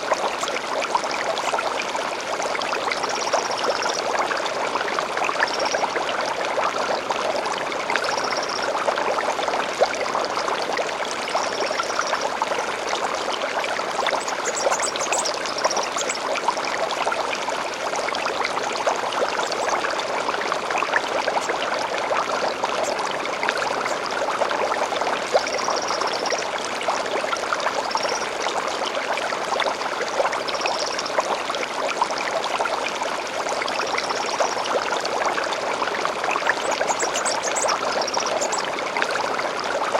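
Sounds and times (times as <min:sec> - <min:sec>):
stream babbling and splashing: 0:00.0 - 0:39.9.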